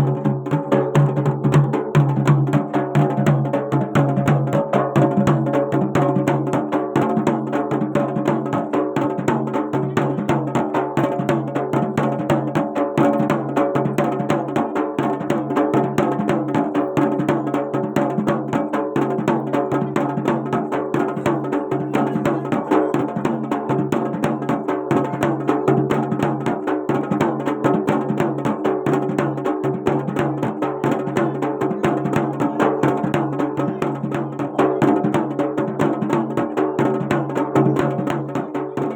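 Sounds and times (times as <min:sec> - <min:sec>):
fast dense drumming: 0:00.0 - 0:38.9.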